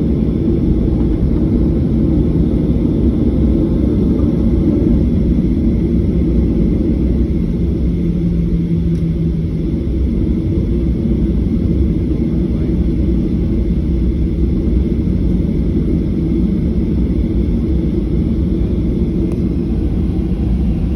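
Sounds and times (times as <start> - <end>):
jet engines rumbling in cabin: 0.0 - 20.9.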